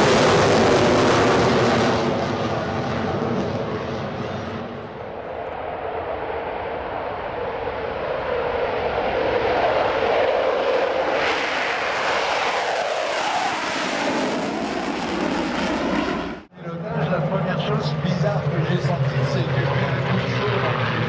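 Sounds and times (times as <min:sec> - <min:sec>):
aircraft engines passing by: 0:00.0 - 0:21.0.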